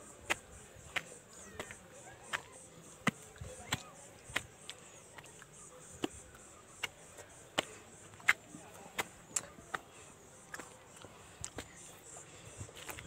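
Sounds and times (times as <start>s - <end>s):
footsteps on concrete steps: 0.0s - 13.0s.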